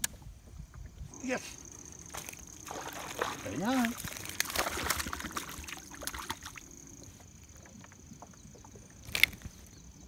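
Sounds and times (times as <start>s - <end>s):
water splashing and sloshing: 0.1s - 10.0s.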